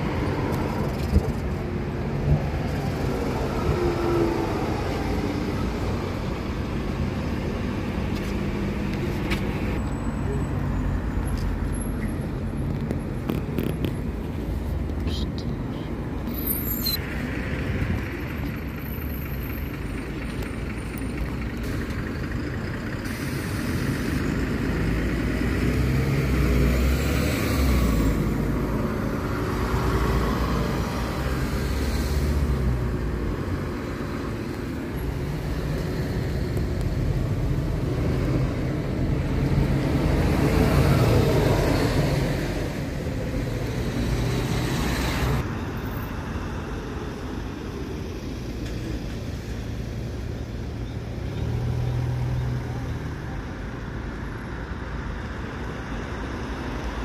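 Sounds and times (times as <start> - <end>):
bus diesel engines accelerating: 0.0 - 57.0
passing cars: 0.0 - 57.0.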